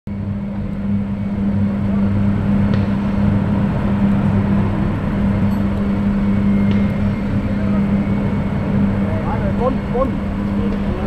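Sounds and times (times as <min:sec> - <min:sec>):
machine humming: 0:00.1 - 0:11.0.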